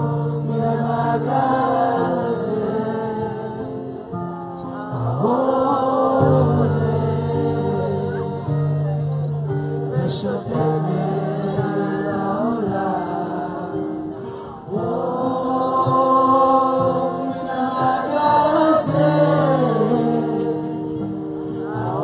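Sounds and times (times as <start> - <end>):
group singing: 0.0 - 4.2, 5.0 - 8.8, 9.9 - 22.0
guitar accompaniment: 0.0 - 22.0.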